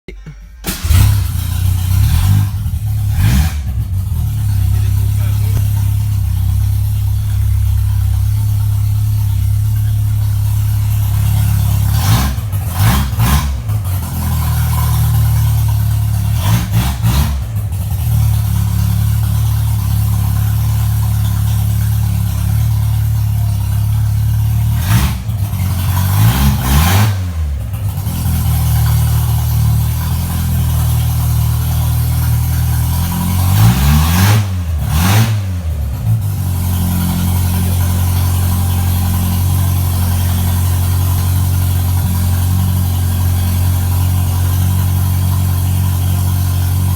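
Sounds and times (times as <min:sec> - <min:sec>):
engine idling and revving: 0:00.0 - 0:46.9.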